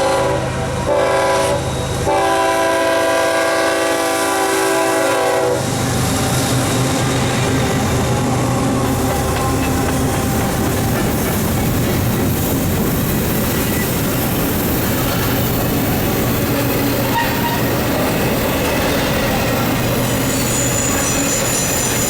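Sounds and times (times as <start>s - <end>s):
low locomotive engine drone: 0.0s - 22.0s
steel wheels rushing on rail: 0.0s - 22.0s.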